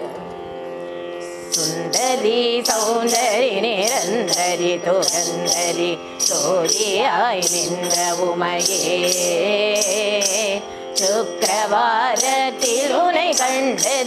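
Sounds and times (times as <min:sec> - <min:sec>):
women singing a hymn: 0:01.6 - 0:14.0.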